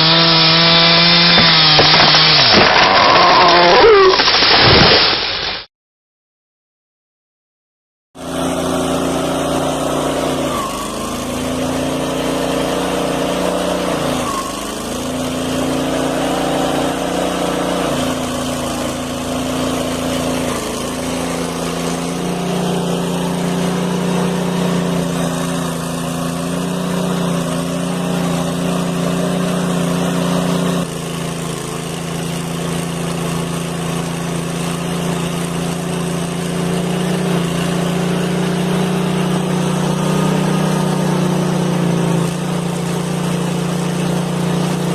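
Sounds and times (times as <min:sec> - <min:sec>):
saw petrol engine at high revs: 0:00.0 - 0:04.0, 0:08.2 - 0:44.9.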